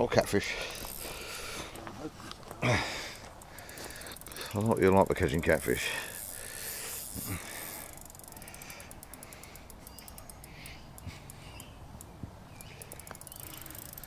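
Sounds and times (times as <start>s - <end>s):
fishing reel clicking: 0.7s - 1.5s, 3.0s - 14.0s.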